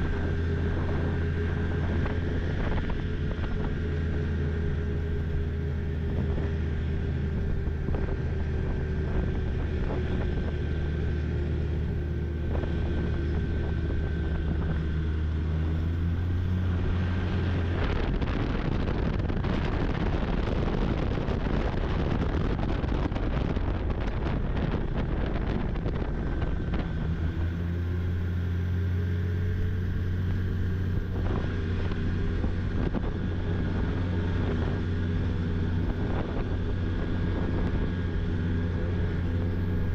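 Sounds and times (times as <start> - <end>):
snowmobile engine droning: 0.0 - 39.9.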